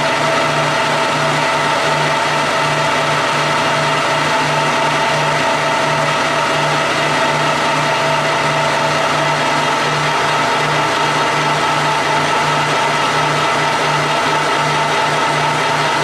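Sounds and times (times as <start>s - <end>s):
lathe machine whine: 0.0s - 16.0s.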